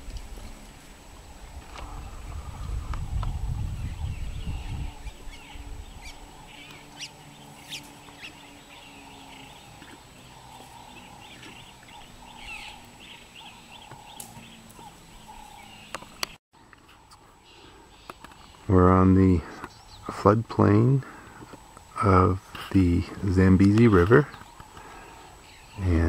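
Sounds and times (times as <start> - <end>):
birds chirping: 0.4 - 26.0.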